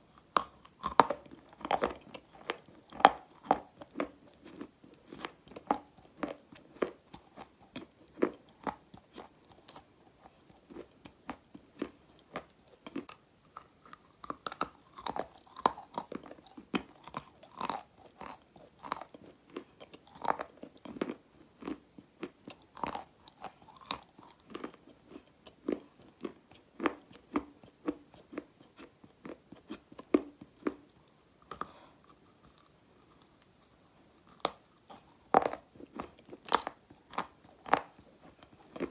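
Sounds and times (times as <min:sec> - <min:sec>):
chewing dry clay crunches: 0:00.0 - 0:38.9.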